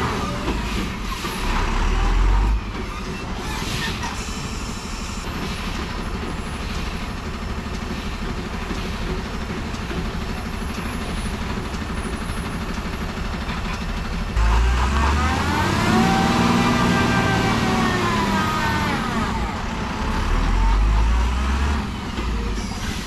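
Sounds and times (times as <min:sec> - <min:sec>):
lorry diesel engine rumbling: 0:00.0 - 0:23.0.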